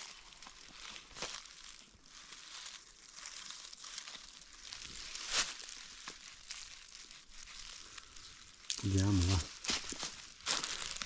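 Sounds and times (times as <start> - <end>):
dry leaves rustling and crunching: 0.0 - 11.0.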